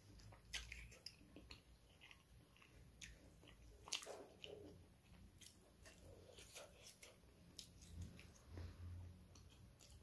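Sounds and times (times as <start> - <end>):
chewing and wet mouth sounds: 0.0 - 10.0.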